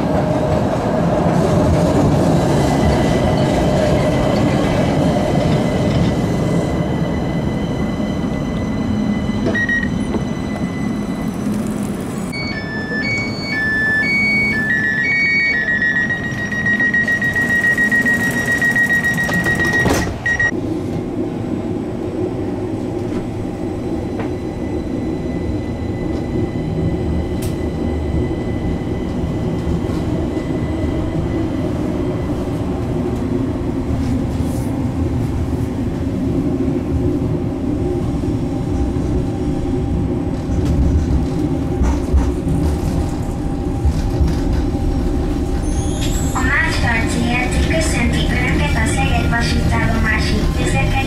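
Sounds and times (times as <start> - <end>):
tram running gear rumble: 0.0 - 51.0.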